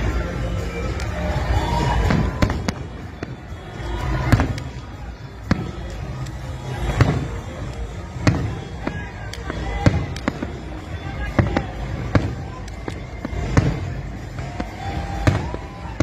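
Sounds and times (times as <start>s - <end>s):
fireworks bursting with sharp bangs: 0.0s - 16.0s
low rumble of fireworks show: 0.0s - 16.0s.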